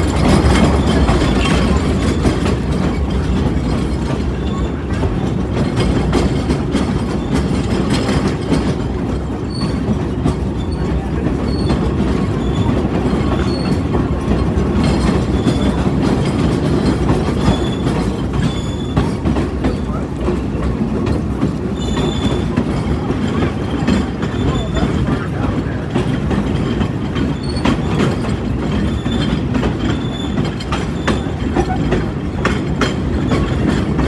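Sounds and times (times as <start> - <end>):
train rumbling and rattling: 0.0 - 34.0.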